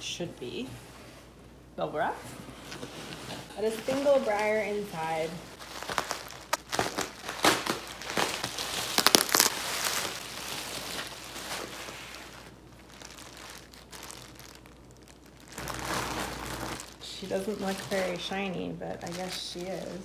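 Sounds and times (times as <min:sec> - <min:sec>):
plastic rustling: 0:02.3 - 0:20.0
bubble wrap crackling: 0:02.6 - 0:20.0.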